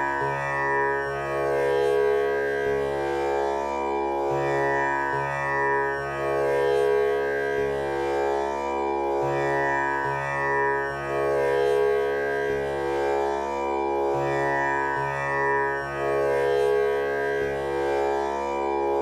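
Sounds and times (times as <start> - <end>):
tanpura drone: 0.0 - 19.0.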